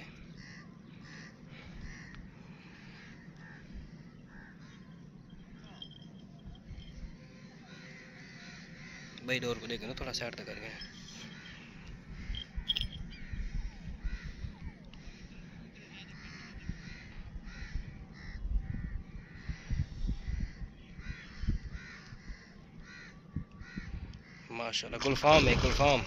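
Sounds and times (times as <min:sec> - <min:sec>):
crows cawing: 0:00.3 - 0:05.1, 0:05.8 - 0:09.9, 0:10.6 - 0:26.0.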